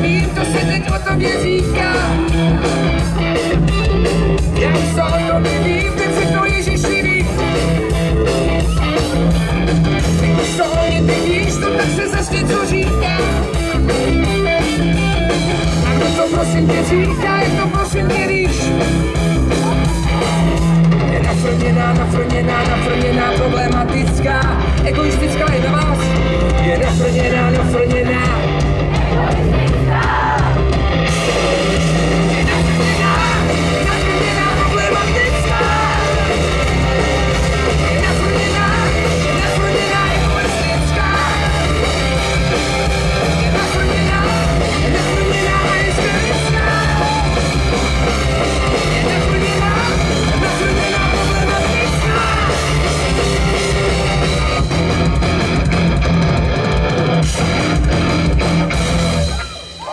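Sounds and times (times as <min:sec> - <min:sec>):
live rock band through pa: 0:00.0 - 0:59.9
wavering guitar lead lines: 0:00.0 - 0:59.9.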